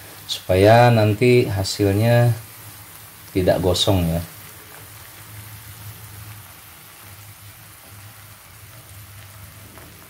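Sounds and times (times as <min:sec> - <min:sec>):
crackers frying in oil: 0:00.0 - 0:10.0.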